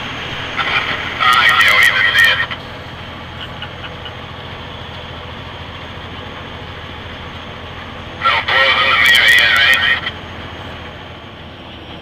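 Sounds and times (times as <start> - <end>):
low hum: 0.0 - 12.0
truck engine and road noise: 0.0 - 12.0.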